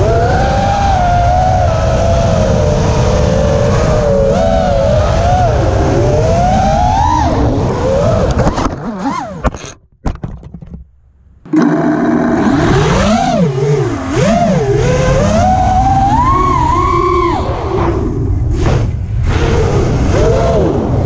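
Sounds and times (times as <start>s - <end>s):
drone motors whining: 0.0s - 9.8s, 11.5s - 21.0s.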